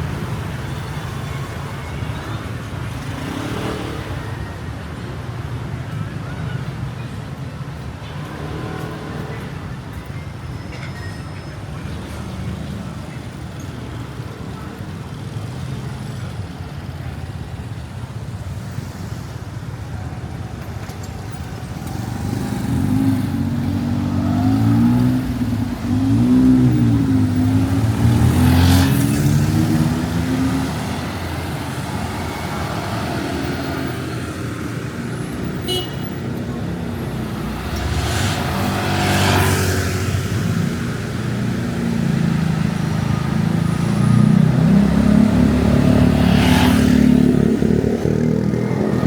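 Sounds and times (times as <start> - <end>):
passing traffic: 0.0 - 49.0.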